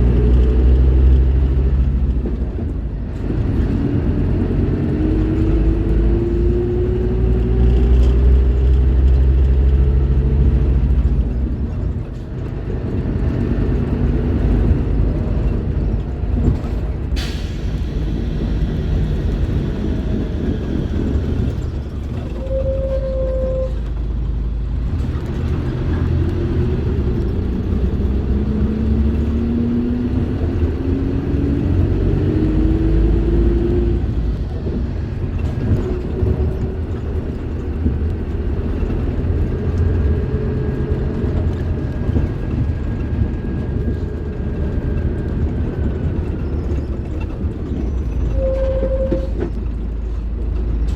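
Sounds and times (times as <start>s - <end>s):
bus diesel engine under load: 0.0s - 50.9s.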